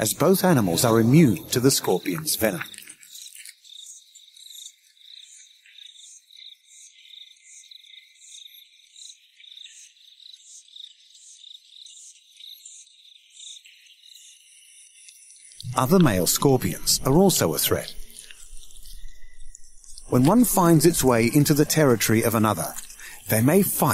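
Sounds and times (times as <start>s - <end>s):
crickets chirping: 0.0s - 23.9s.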